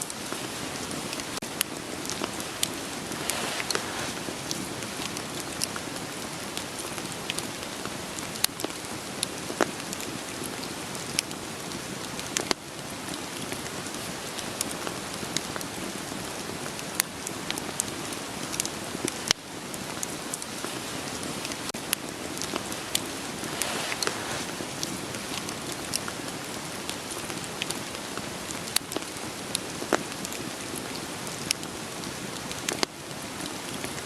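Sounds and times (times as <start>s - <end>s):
rain falling: 0.0s - 34.0s
wood fire crackling: 0.0s - 34.0s.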